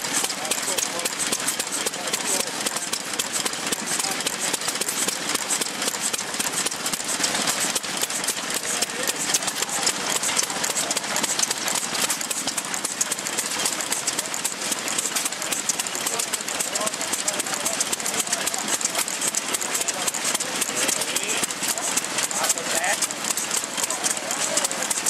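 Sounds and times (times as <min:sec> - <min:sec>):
stationary engine clattering: 0:00.0 - 0:25.0.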